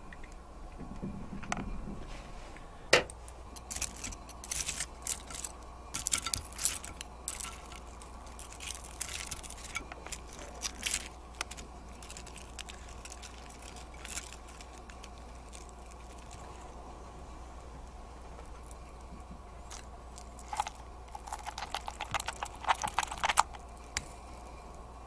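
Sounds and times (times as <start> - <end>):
steady low hum: 0.0 - 25.0
fried chicken crust crackling: 3.5 - 16.7, 17.8 - 25.0.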